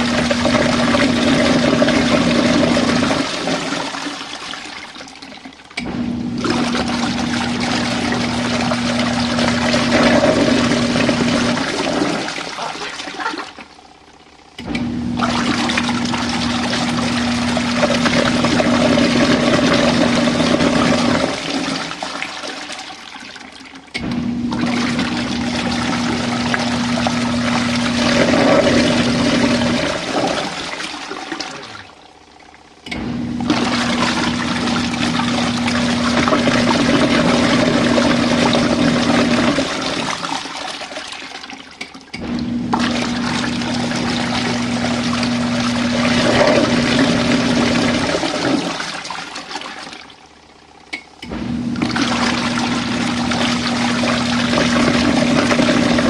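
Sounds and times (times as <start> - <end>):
motor hum: 0.0 - 56.0
water churning and sloshing: 0.0 - 56.0.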